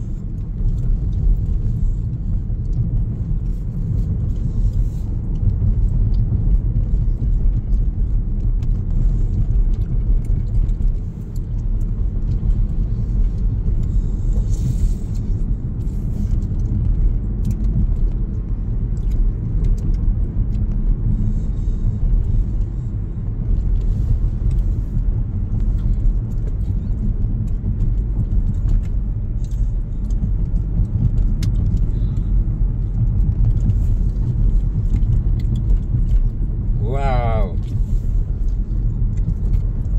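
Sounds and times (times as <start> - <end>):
car driving inside cabin: 0.0 - 39.9.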